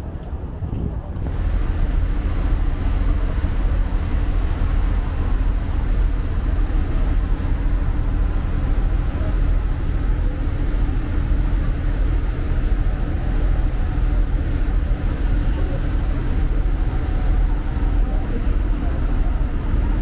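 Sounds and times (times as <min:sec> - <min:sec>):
ship engine droning: 0:00.0 - 0:20.0
wind: 0:00.0 - 0:20.0
rushing water: 0:01.2 - 0:20.0.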